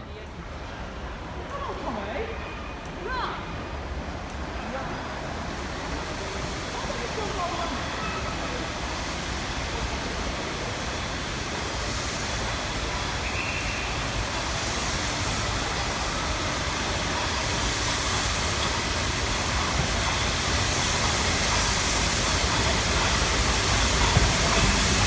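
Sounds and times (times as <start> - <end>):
train rumbling and hissing: 0.0 - 25.0.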